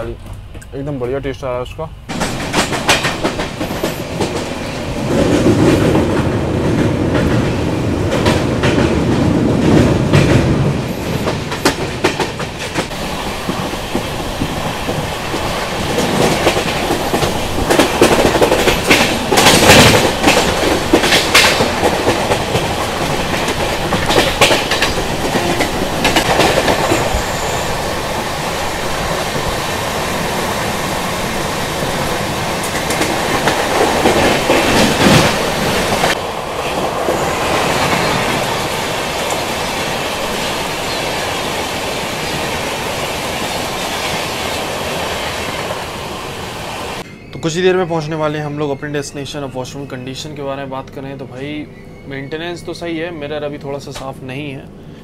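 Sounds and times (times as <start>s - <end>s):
train wheels clattering over rails: 2.1s - 47.0s.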